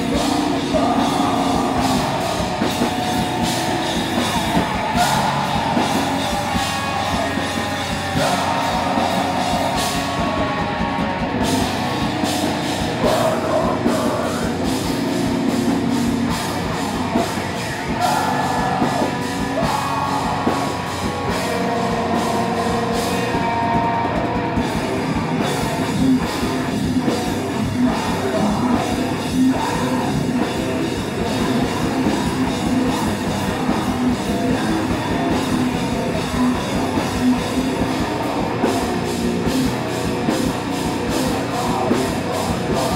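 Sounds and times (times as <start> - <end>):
singer shouting vocals: 0.0 - 11.0, 12.8 - 23.8, 27.0 - 38.6, 41.0 - 42.9
bass guitar: 0.0 - 42.9
distorted electric guitar: 0.0 - 42.9
drum kit: 0.0 - 42.9.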